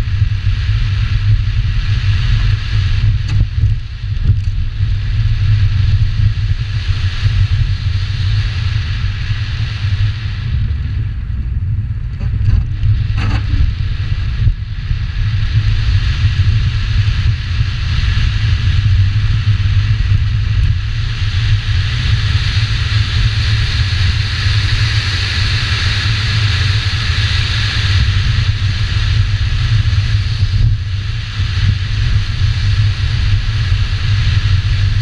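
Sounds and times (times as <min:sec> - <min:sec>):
car engine rumbling under load: 0:00.0 - 0:35.0
wind hiss over microphone: 0:00.0 - 0:35.0.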